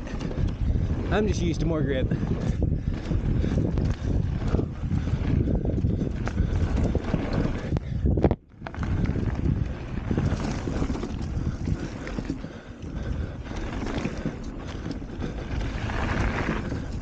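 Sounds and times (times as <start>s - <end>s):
bike rattling and knocking: 0.0s - 17.0s
tyres rumbling on dirt trail: 0.0s - 17.0s
wind buffeting microphone: 0.0s - 17.0s.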